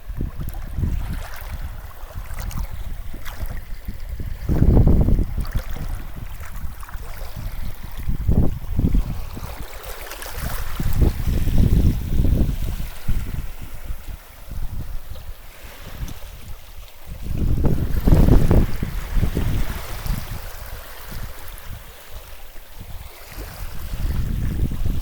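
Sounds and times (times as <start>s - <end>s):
sea waves washing: 0.0s - 25.0s
wind buffeting microphone: 0.0s - 25.0s.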